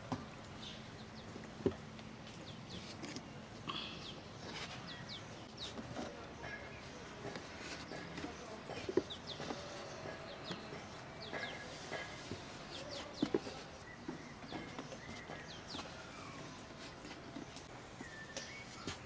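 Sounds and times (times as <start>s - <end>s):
small birds chirping: 0.3s - 19.0s.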